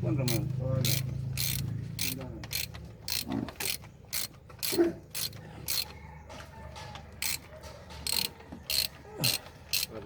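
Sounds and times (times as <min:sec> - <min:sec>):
ratchet wrench clicking: 0:00.2 - 0:06.0, 0:07.2 - 0:10.0.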